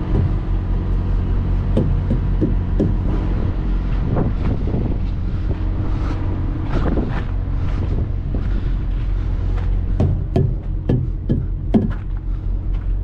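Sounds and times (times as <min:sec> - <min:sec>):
diesel engine idling: 0:00.0 - 0:13.0
wind buffeting microphone: 0:00.0 - 0:13.0.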